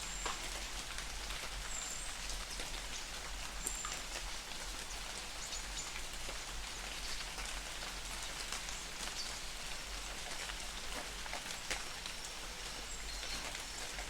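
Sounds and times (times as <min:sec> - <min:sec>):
light rain pattering: 0:00.0 - 0:14.0.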